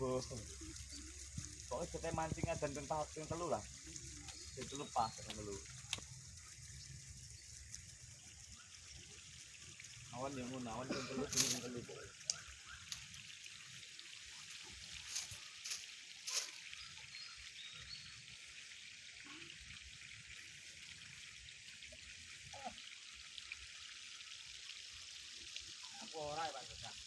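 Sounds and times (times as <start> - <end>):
water trickling: 0.0 - 27.0.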